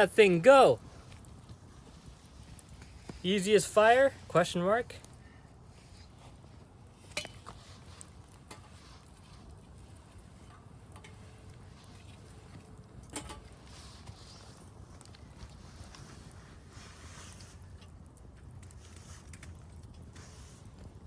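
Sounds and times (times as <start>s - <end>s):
fire crackles and snaps: 0.0s - 21.0s
wood fire rumbling in stove: 0.0s - 21.0s.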